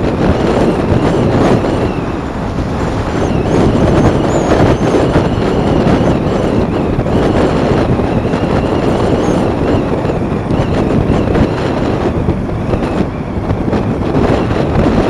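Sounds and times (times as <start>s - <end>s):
motorcycle engine: 0.0s - 15.0s
wind rushing on microphone: 0.0s - 15.0s.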